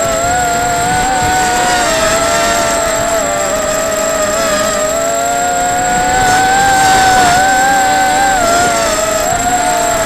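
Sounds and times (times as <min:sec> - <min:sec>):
drone motors whining: 0:00.0 - 0:10.0
strong wind rumble: 0:00.0 - 0:10.0.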